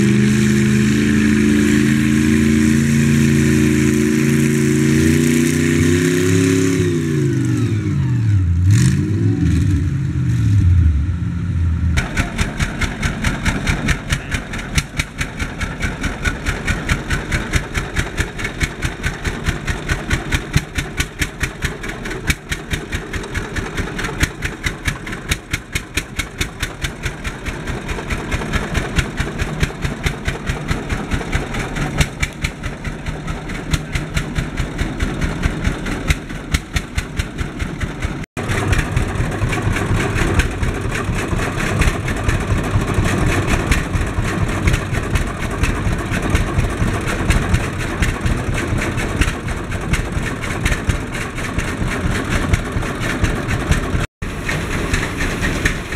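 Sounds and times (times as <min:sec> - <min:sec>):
vintage tractor engine running: 0:00.0 - 0:08.8, 0:11.7 - 0:55.9
small tractor engine under load: 0:00.0 - 0:08.9, 0:09.8 - 0:55.9.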